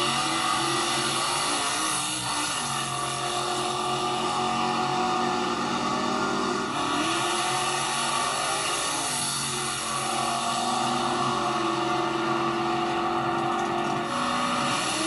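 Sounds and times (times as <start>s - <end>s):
racing car engines revving high: 0.0s - 15.0s.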